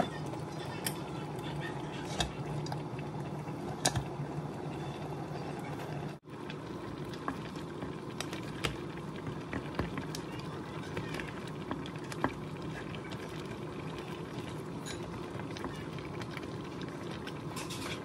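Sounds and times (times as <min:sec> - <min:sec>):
food simmering in a pan: 0:00.0 - 0:18.0.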